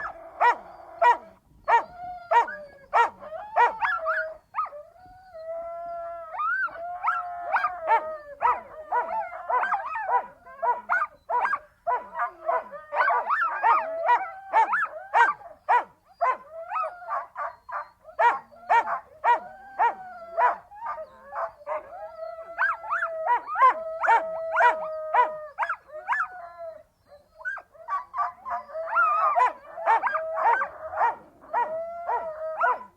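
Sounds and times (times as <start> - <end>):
dogs yipping and barking: 0.0 - 4.8, 6.3 - 32.9
dogs howling: 0.0 - 32.9.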